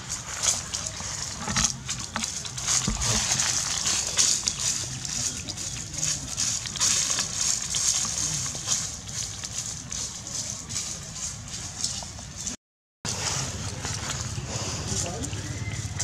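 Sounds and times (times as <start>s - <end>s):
dry leaves crunching underfoot: 0.0s - 16.0s.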